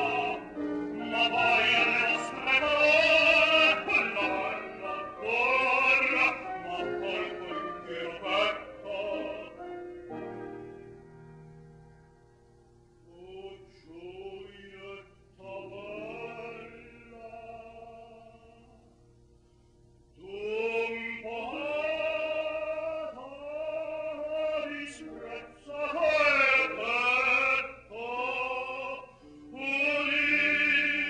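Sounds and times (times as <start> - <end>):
operatic tenor singing: 0.0 - 10.3, 13.0 - 18.9, 20.1 - 31.0.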